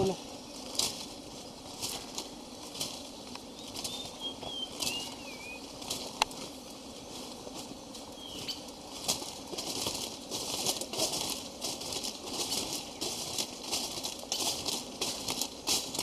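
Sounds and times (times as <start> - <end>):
rustling and scraping: 0.3 - 16.0.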